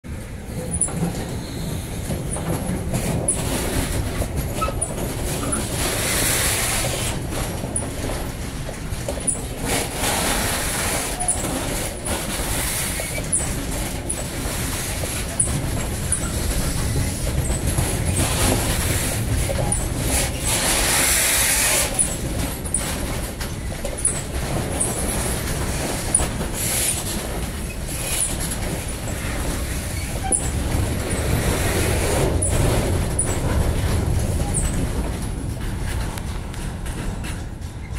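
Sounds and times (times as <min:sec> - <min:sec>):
freight train rumbling past: 0:00.0 - 0:37.9
wheels clicking over rail joints: 0:00.1 - 0:37.9.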